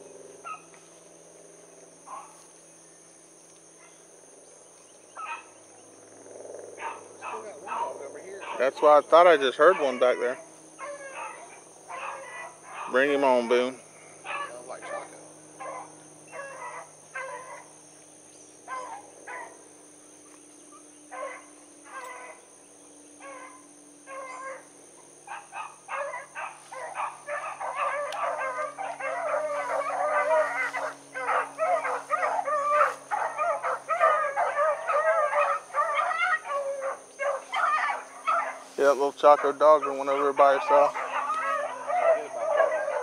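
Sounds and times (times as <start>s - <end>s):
hounds baying: 0.0s - 0.9s, 2.0s - 2.5s, 5.1s - 17.8s, 18.6s - 19.7s, 20.7s - 22.5s, 23.2s - 43.0s.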